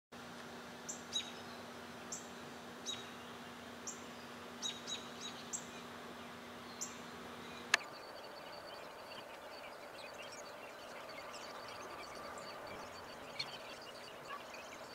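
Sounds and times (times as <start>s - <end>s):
low steady hum: 0.2s - 14.9s
outdoor hiss: 0.2s - 14.9s
bird chirping: 0.8s - 14.9s.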